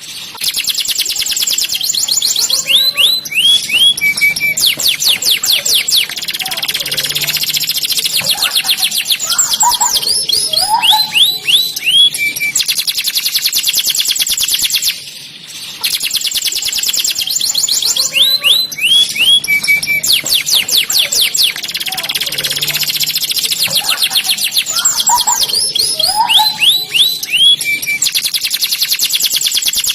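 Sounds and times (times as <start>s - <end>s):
canary singing: 0.0s - 29.9s.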